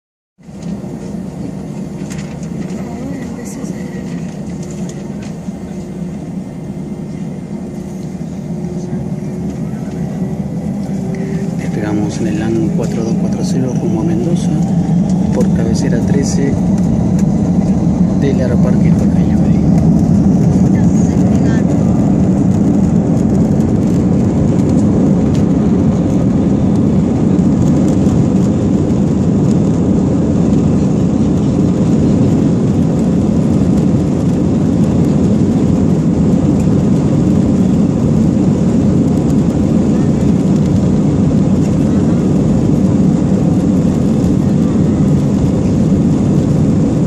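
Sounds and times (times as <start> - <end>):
jet engine roar in cabin: 0.4 - 47.0.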